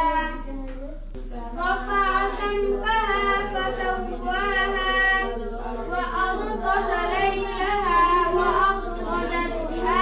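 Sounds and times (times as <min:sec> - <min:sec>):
boy chanting: 0:00.0 - 0:10.0.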